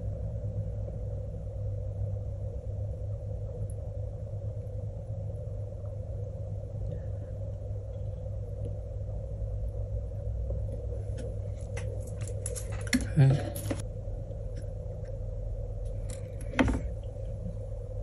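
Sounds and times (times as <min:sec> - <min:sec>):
faint steady drone: 0:00.0 - 0:18.0
steady low hum: 0:00.0 - 0:18.0.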